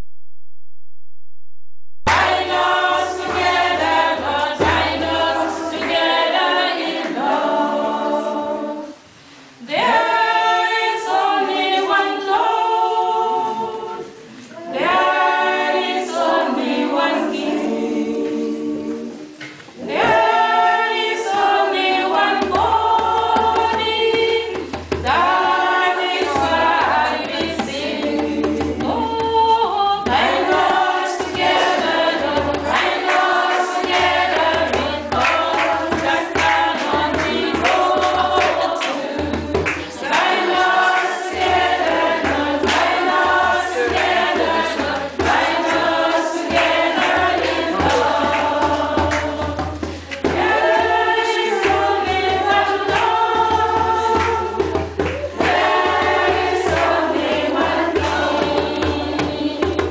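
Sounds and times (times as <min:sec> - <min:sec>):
women singing a cappella: 0:02.1 - 0:59.9.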